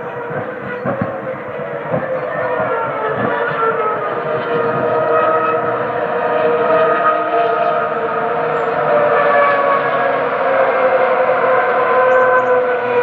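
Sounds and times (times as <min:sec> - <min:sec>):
distant racing car engines revving: 0:00.0 - 0:13.0.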